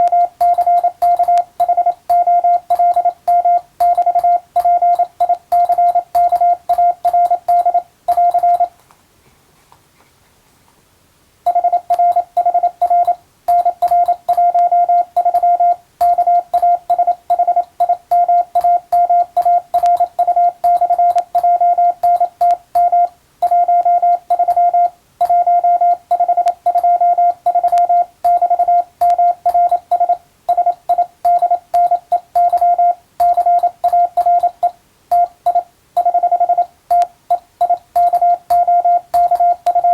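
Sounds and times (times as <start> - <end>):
morse code tone: 0.0 - 8.7, 11.5 - 39.9.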